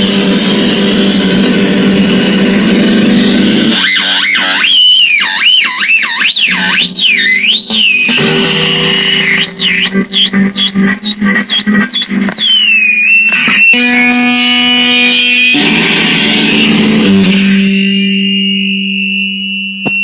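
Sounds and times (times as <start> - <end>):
electric guitar with effects: 0.0 - 20.0
steady high whine: 0.0 - 20.0.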